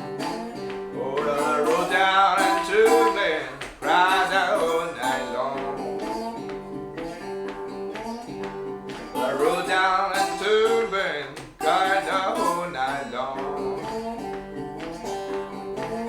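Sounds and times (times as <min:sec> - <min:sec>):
slide guitar blues riff: 0:00.0 - 0:16.0.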